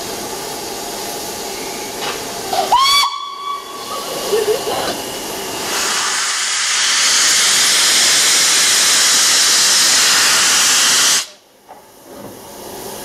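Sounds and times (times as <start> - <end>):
steam hissing from safety valves: 0.0 - 13.0.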